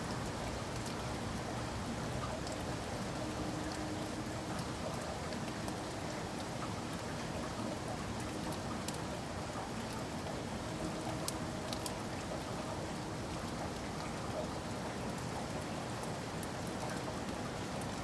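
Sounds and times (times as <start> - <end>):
steady rain falling: 0.0 - 18.0
sharp raindrop ticks: 0.1 - 18.0.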